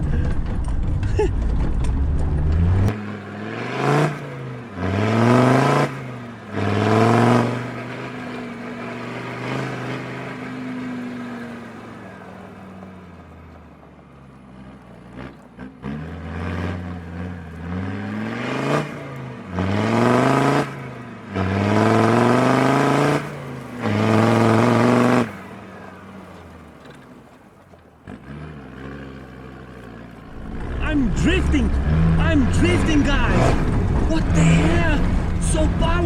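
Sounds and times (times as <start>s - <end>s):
diesel engine accelerating hard: 0.0s - 36.0s.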